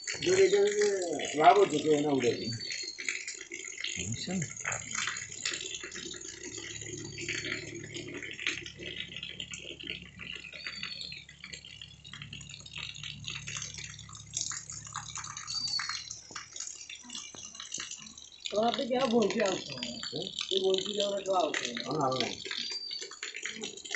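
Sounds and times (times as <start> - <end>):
rain drips and splatters: 0.0 - 23.9.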